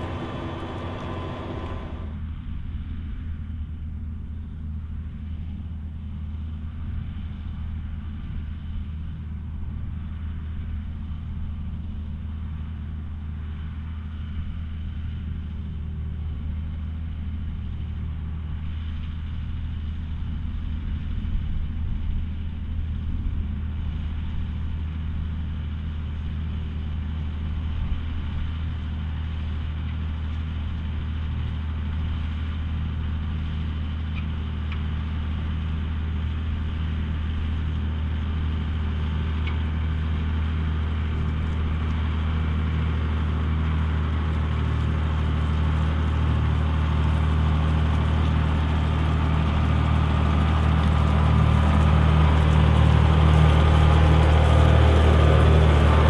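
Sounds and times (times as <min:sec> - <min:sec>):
tractor diesel engine drone: 0:00.0 - 0:56.0.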